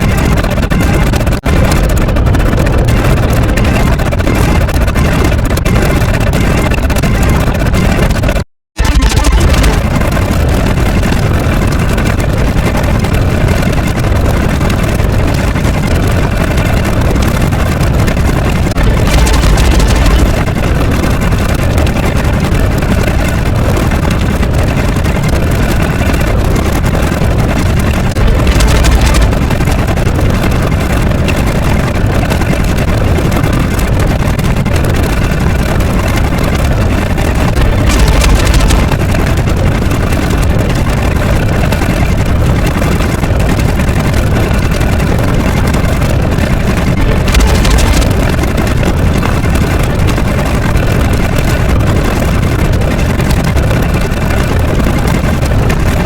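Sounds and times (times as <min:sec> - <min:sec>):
low engine-like rumble: 0:00.0 - 0:56.0.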